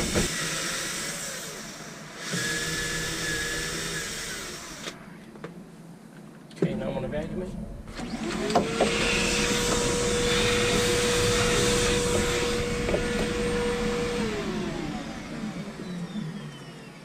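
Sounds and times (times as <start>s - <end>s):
vacuum cleaner running: 0.0s - 5.1s, 7.9s - 17.0s.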